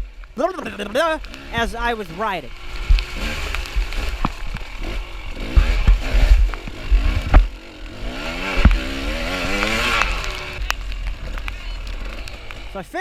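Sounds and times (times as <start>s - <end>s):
bike thumping on terrain: 0.0s - 13.0s
dirt bike engine revving: 0.0s - 13.0s.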